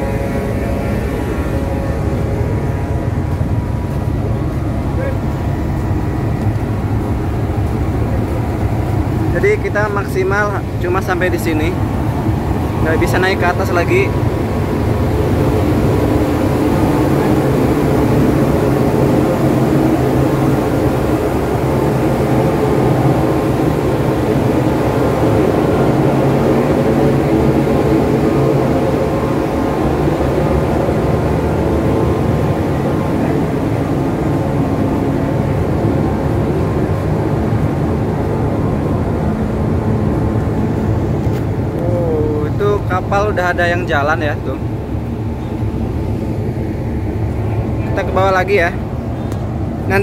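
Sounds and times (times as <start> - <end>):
ship diesel engines droning: 0.0 - 50.0.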